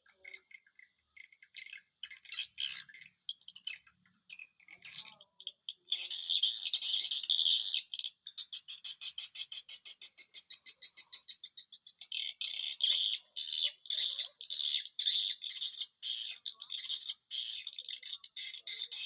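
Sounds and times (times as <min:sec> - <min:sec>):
swiftlet twittering chirps: 0:00.0 - 0:19.0.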